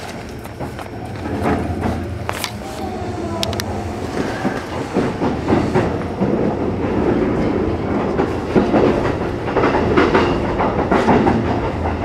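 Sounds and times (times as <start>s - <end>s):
train rumbling on rails: 0.0s - 12.0s
wheels clicking over rail joints: 0.0s - 12.0s.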